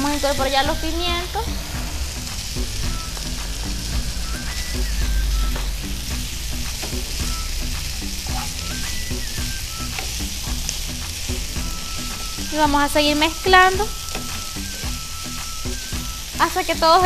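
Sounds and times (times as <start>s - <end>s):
food sizzling in a wok: 0.0s - 17.0s
soft background music: 0.0s - 17.0s.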